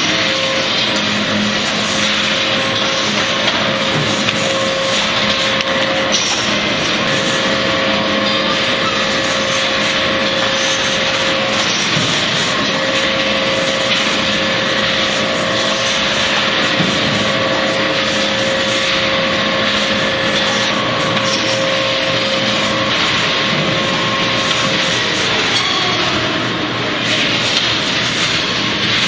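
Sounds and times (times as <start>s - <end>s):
factory machinery running: 0.0s - 29.0s.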